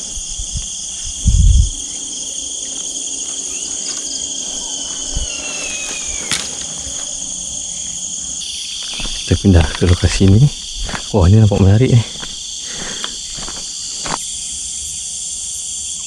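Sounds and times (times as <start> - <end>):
crickets and insects chirping: 0.0 - 16.0.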